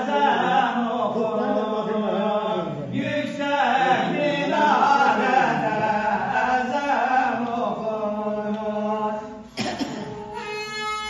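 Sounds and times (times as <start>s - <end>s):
man chanting unaccompanied: 0.0s - 9.5s.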